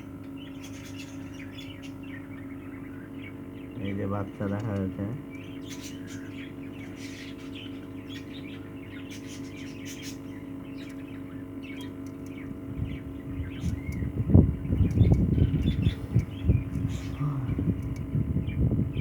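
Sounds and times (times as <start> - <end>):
budgerigars chirping: 0.0 - 19.0
electrical hum: 0.0 - 19.0.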